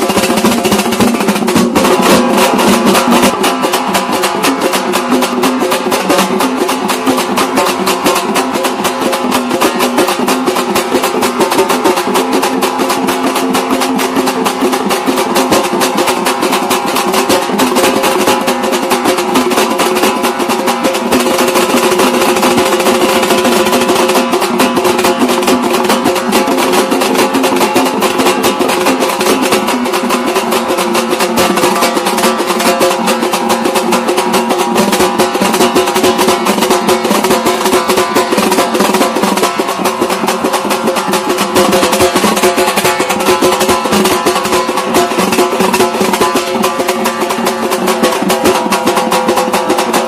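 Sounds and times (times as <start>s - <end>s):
fast drumming music: 0.0s - 50.0s.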